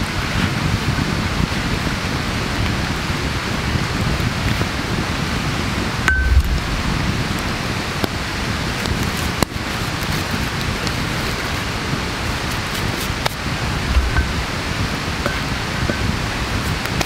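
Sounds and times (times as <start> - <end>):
campfire flames hissing: 0.0 - 17.0
fire crackles and pops: 0.0 - 17.0.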